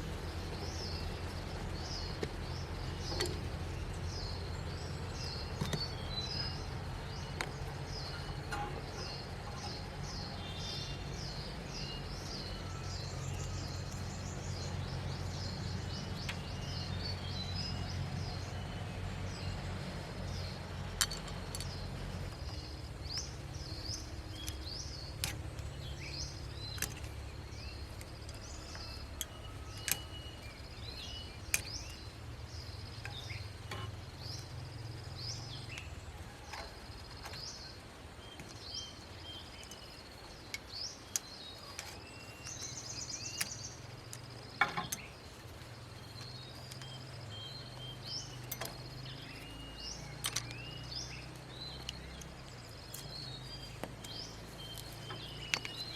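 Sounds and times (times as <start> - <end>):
small birds chirping: 0.0 - 55.9
steady low hum: 0.0 - 55.9.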